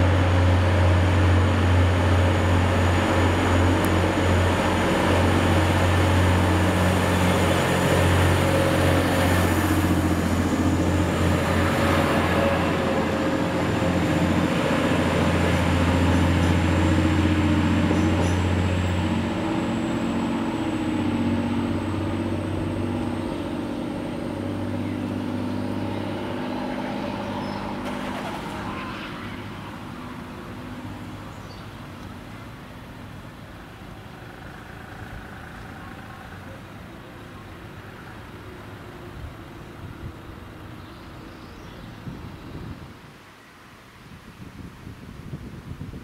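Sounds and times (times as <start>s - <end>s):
train engines humming and whining: 0.0s - 42.0s.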